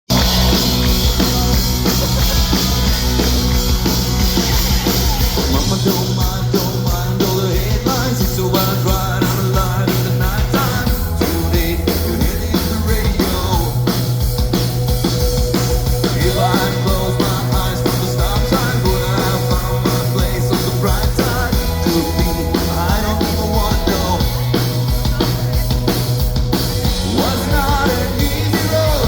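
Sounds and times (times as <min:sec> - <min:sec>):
drum-kit beat: 0:00.1 - 0:29.0
live rock band playing: 0:00.1 - 0:29.0.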